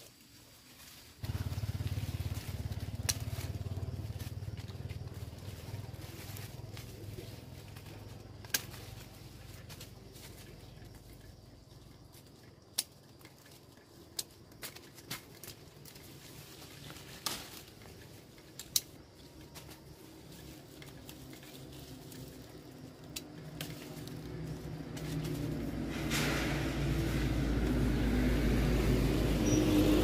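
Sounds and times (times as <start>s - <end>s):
engine hum: 1.2s - 12.7s, 15.2s - 30.0s.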